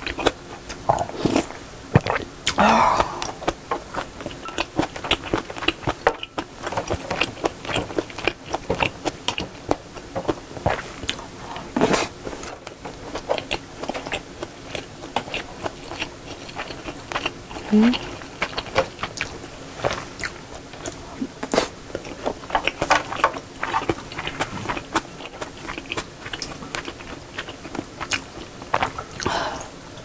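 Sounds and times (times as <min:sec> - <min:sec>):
close chewing and mouth sounds: 0:00.0 - 0:29.6.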